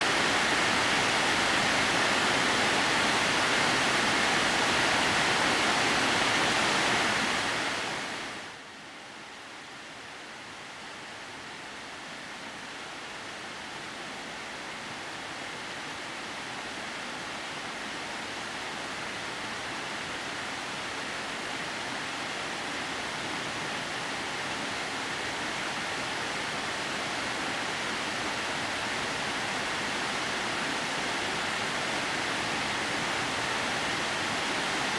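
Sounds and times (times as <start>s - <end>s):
waterfall rushing: 0.0s - 8.6s, 14.1s - 34.9s.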